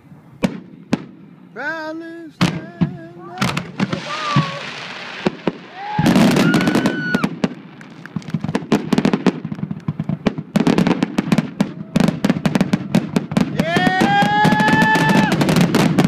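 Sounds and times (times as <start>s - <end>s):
fireworks cracking and banging: 0.4s - 16.0s.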